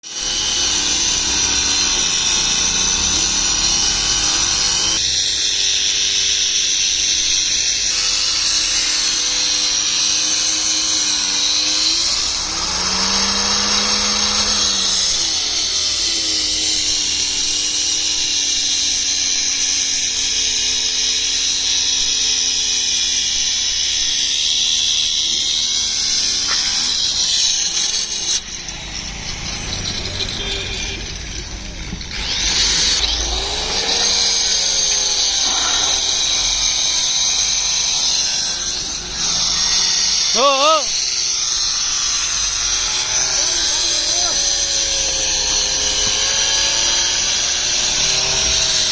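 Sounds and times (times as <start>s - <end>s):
power tool running with high hiss: 0.1s - 48.9s.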